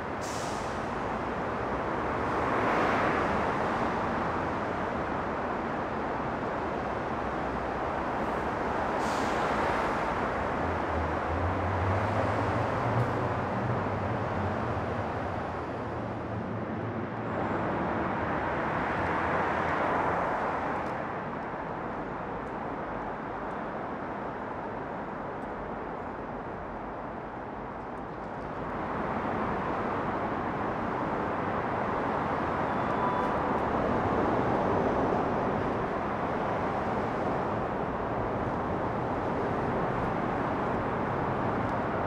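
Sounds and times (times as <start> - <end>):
city traffic passing: 0.0 - 42.0.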